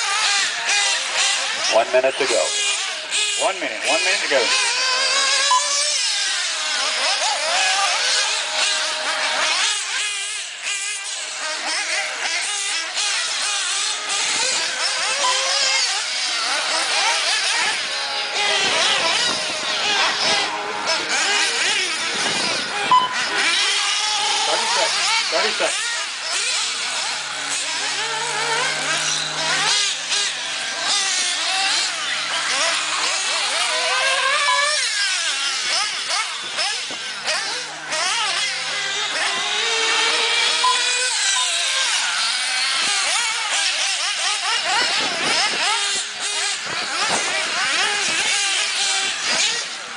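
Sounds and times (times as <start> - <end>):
rc buggy engines buzzing: 0.0 - 49.9.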